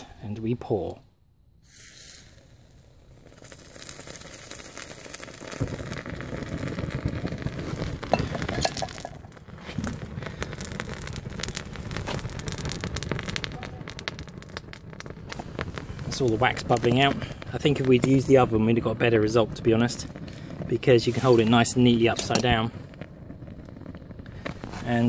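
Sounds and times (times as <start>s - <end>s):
wax sizzling and crackling: 1.7s - 25.0s.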